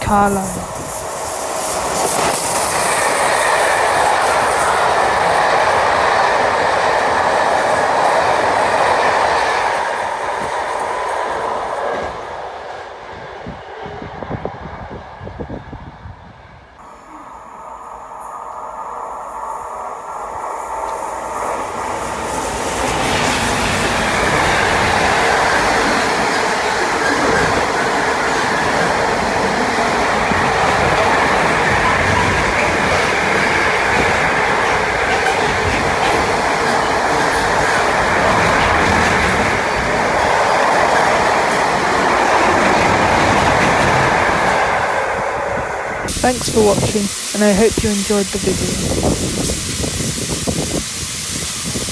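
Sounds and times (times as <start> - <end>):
train passing: 0.0 - 51.9.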